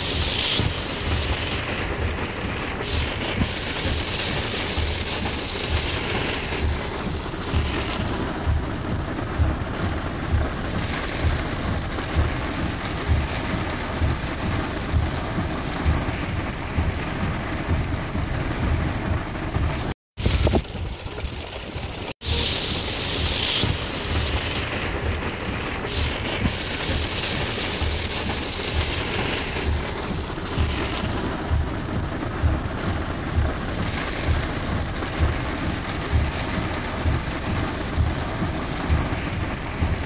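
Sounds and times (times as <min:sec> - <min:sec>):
heavy rain on a vehicle: 0:00.0 - 0:40.0.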